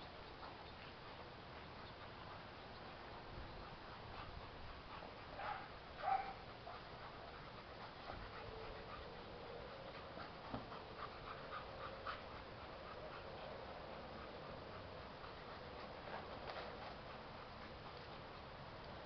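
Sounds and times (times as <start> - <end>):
dog panting: 0.4 - 19.0.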